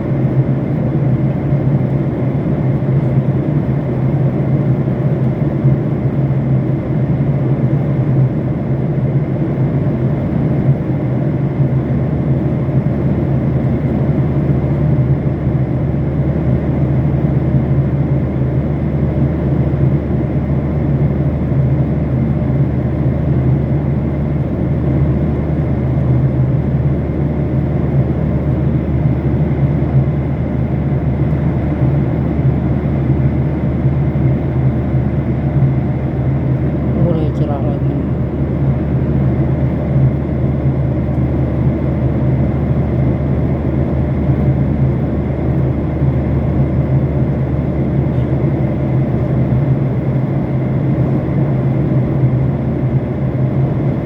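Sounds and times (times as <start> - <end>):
aircraft cabin engine drone: 0.0 - 54.0.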